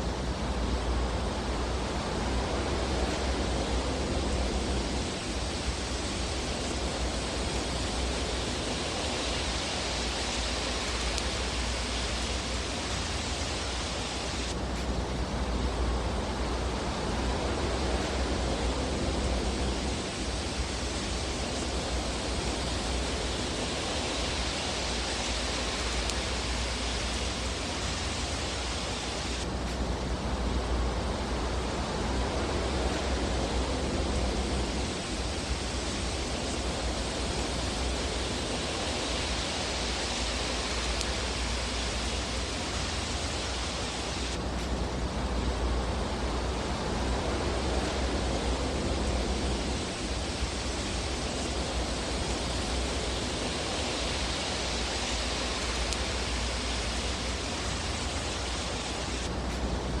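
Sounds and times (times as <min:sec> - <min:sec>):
fire crackles: 0:00.0 - 1:00.0
fireplace fire hissing and rumbling: 0:00.0 - 1:00.0.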